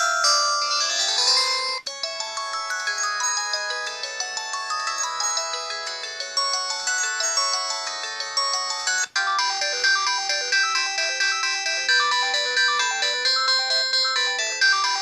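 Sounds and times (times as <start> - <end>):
mobile phone polyphonic ringtone: 0.0 - 15.0.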